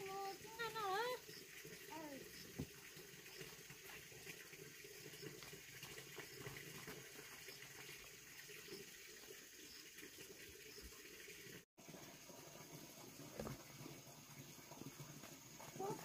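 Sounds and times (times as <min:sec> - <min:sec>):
faint running water: 0:00.0 - 0:16.0.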